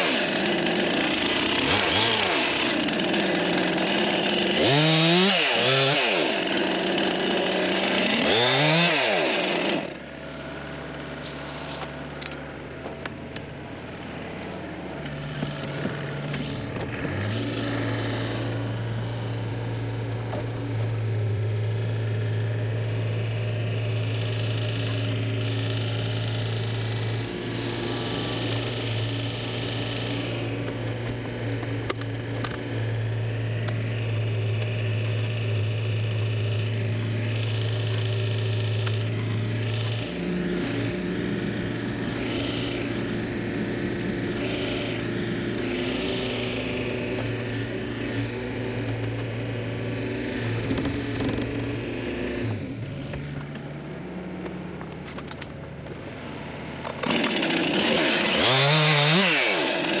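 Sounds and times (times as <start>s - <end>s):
excavator diesel engine running: 0.0s - 59.1s.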